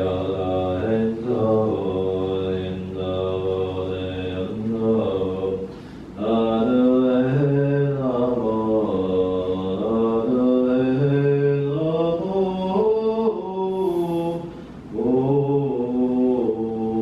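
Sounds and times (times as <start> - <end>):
ritual chanting: 0.0 - 17.0.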